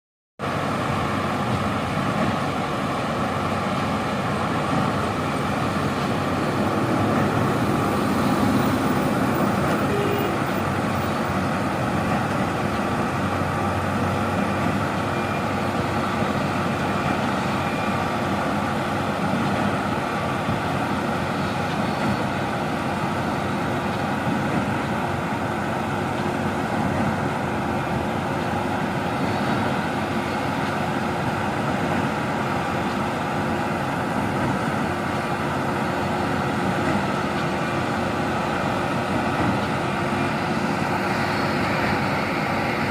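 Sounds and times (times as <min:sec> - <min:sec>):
diesel truck engine running: 0:00.4 - 0:42.9.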